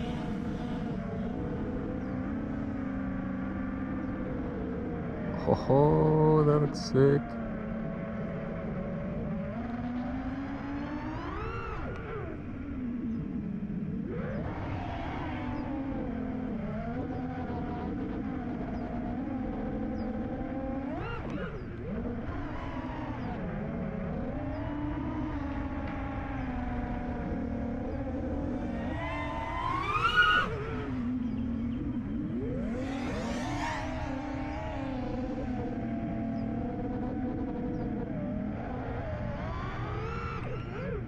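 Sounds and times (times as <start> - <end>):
drone motors whining: 0.0 - 6.8, 7.4 - 41.0.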